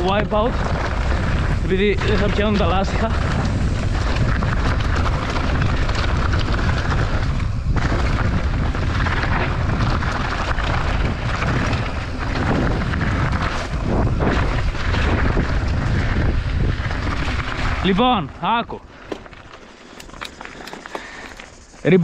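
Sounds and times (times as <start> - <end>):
bike rattling: 0.0 - 22.0
tyres crunching over gravel: 0.0 - 22.0
wind buffeting microphone: 0.0 - 22.0.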